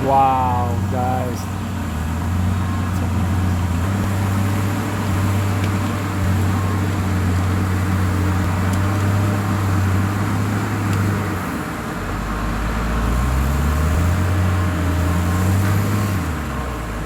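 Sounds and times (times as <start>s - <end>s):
heavy machinery engine droning: 0.0s - 17.0s.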